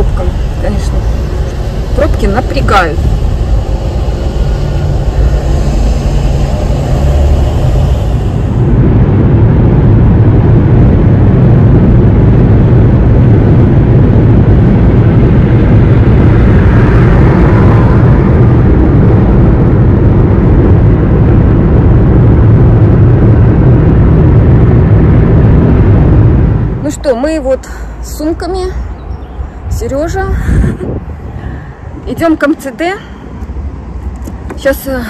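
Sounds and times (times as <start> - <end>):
car cabin road and engine rumble: 0.0 - 35.0.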